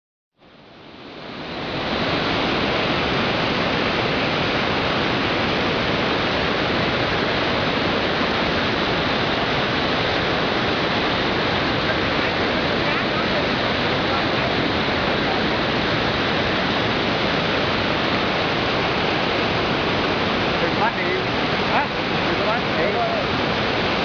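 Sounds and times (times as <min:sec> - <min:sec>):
rushing water: 0:00.4 - 0:24.0.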